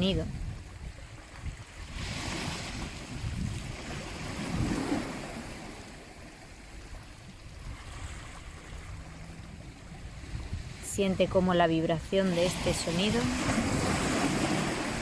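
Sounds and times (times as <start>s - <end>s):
sea waves breaking: 0.0s - 15.0s.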